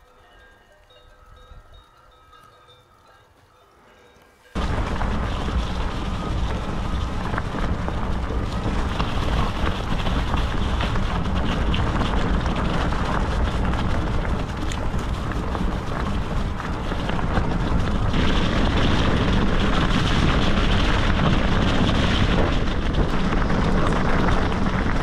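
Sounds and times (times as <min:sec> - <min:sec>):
bike rattling: 0:00.0 - 0:25.0
tyres rolling over leaves and stones: 0:00.0 - 0:25.0
wind rushing over microphone: 0:04.6 - 0:25.0.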